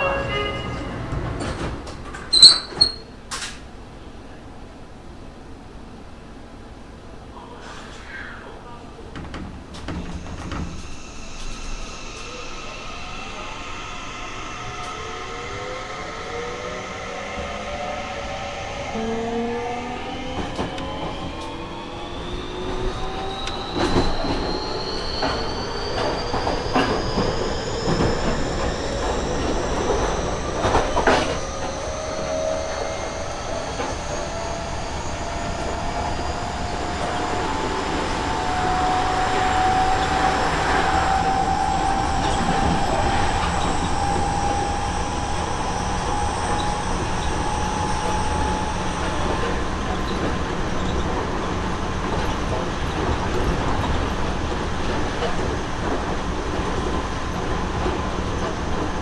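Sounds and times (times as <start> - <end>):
train inverter whining: 0.0 - 6.8, 9.7 - 59.0.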